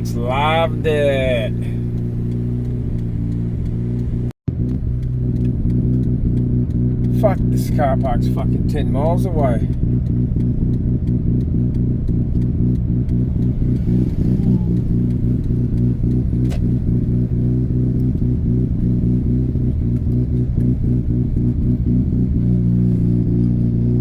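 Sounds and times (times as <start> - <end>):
rotary engine running: 1.5 - 23.7.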